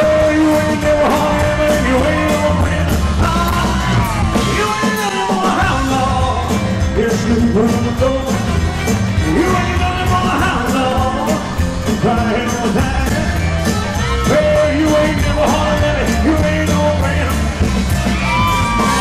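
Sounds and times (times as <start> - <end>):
rock and roll band playing: 0.0 - 19.0.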